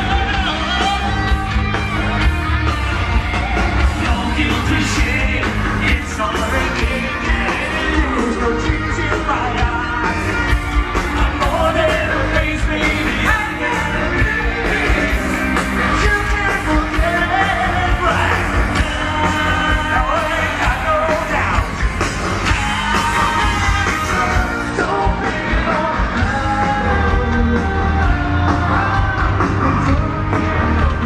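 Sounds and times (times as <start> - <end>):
loud amplified rock instruments: 0.0 - 31.0
steady drum beat: 0.0 - 31.0
person singing: 3.3 - 31.0.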